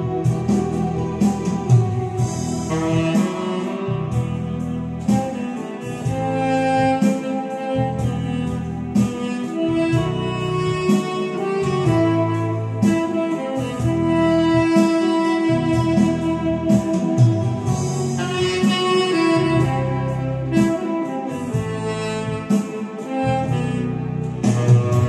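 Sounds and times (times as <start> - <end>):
backing track with beat: 0.0 - 25.0
tenor saxophone slow melody: 0.0 - 25.0.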